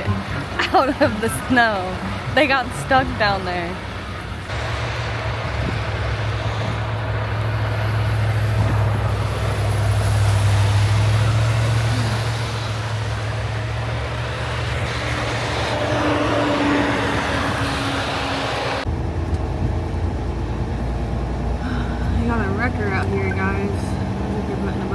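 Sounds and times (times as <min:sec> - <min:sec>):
truck diesel engine drone: 0:00.0 - 0:24.9.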